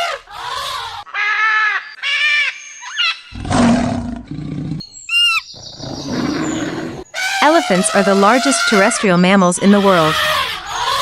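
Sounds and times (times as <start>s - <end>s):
pitched animal calls: 0.0s - 3.8s, 5.1s - 11.0s.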